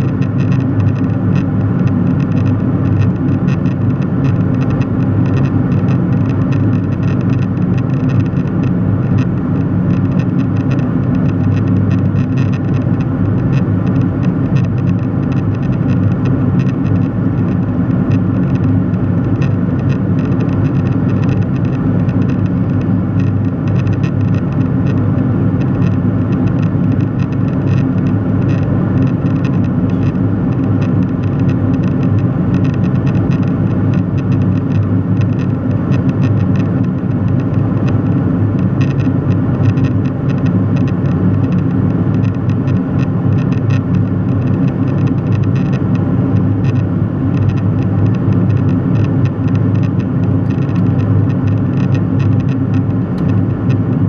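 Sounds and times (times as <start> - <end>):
jet airliner cabin drone: 0.0 - 49.4.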